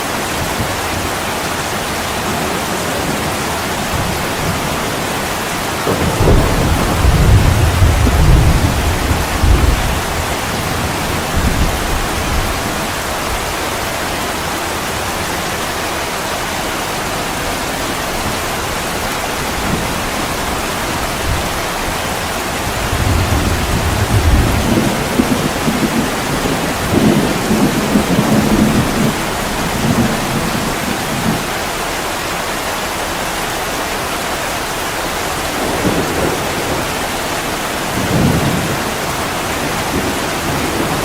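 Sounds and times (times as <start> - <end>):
heavy rain: 0.0 - 41.0
thunder rumbling: 0.4 - 31.8, 34.8 - 41.0.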